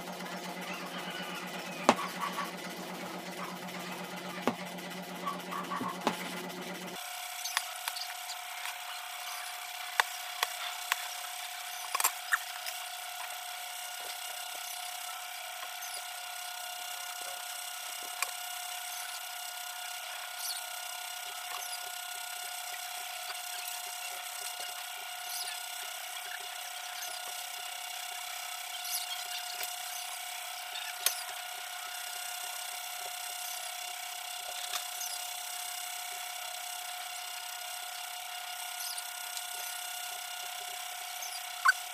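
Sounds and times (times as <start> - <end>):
high-pitched hum: 0.0 - 6.3, 7.0 - 41.9.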